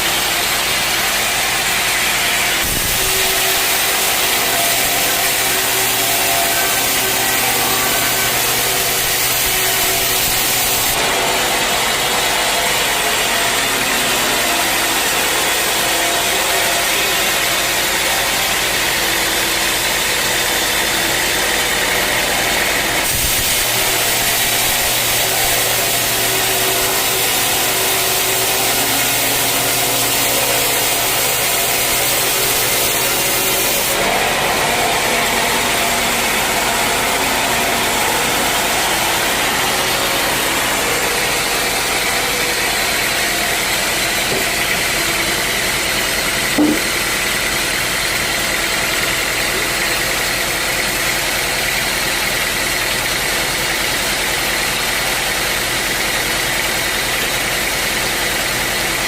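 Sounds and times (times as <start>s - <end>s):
saw blade cutting wood: 0.0s - 59.0s
sawmill motor humming: 0.0s - 59.0s.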